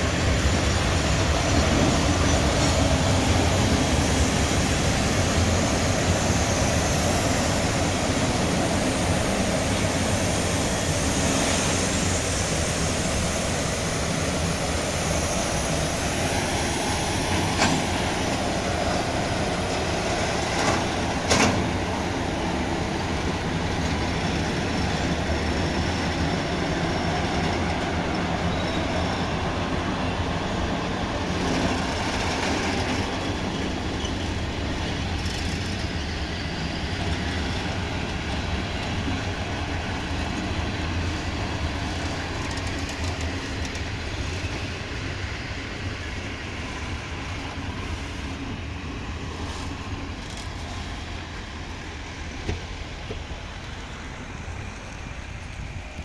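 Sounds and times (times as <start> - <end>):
freight train rolling past: 0.0 - 56.0
wheel and brake noise on rails: 0.0 - 56.0.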